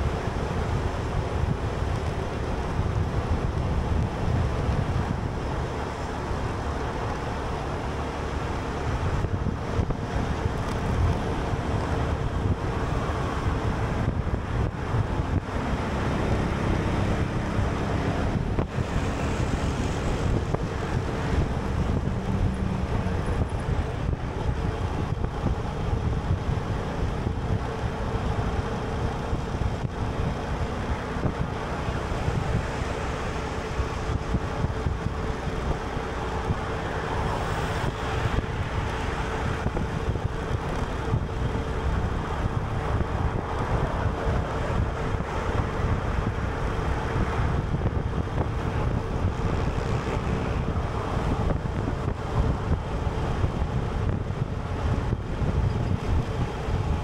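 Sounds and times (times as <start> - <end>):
vehicle road noise: 0.0 - 57.0
wind buffeting microphone: 0.0 - 57.0.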